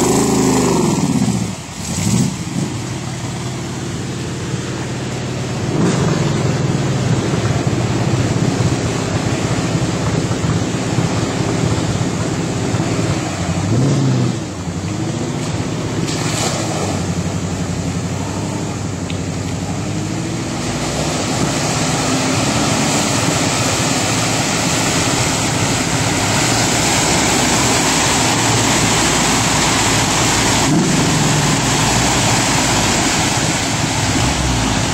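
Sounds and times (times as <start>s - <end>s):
truck engine working hard: 0.0s - 34.9s
water splashing and surging: 0.0s - 34.9s.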